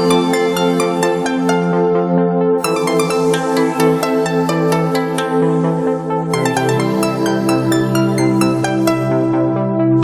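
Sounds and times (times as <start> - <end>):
synth pad chords: 0.0 - 10.0.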